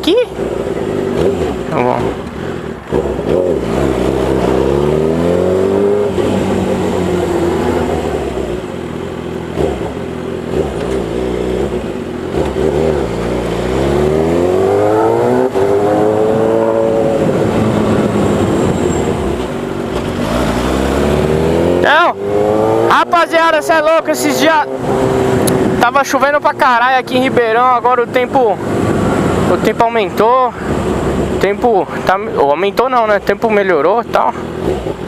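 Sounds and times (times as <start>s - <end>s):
motorcycle engine accelerating: 0.0s - 31.8s, 33.5s - 35.0s.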